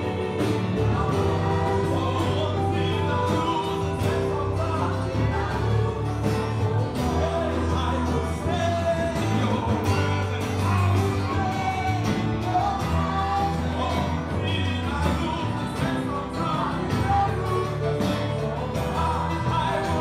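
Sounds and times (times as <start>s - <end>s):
gospel singers and band: 0.0s - 20.0s
steady bass line: 0.0s - 20.0s.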